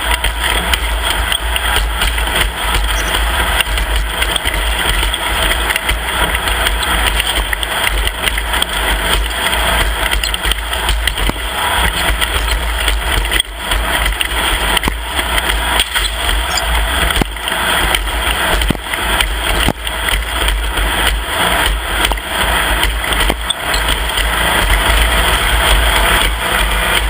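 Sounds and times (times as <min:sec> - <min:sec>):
loud steady rushing noise: 0:00.0 - 0:27.0
vehicle engine running: 0:00.0 - 0:27.0.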